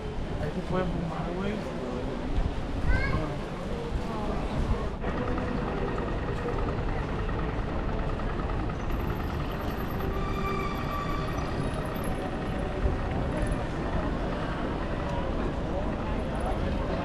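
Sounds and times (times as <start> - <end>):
vehicle traffic noise: 0.0 - 17.0.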